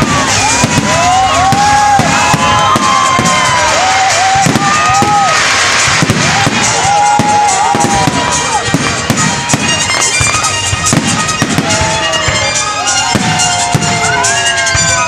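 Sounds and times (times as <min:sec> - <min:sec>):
fireworks bursting and crackling: 0:00.0 - 0:15.0
whistling fireworks: 0:00.0 - 0:15.0.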